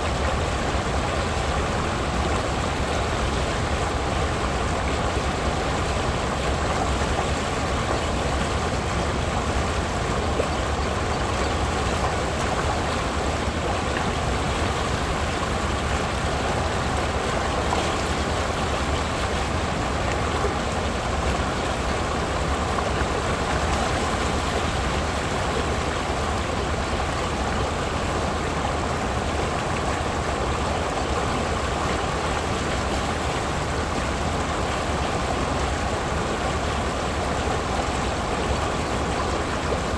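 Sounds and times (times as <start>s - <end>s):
creek water rushing and splashing: 0.0s - 39.9s.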